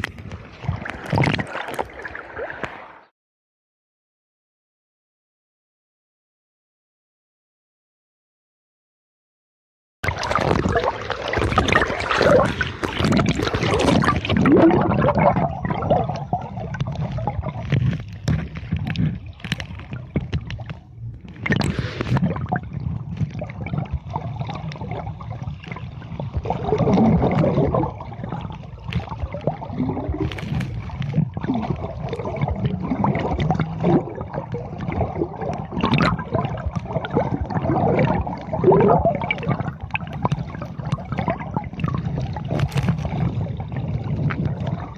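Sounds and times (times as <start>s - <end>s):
water gurgling and sloshing: 0.0s - 3.1s, 10.0s - 44.9s.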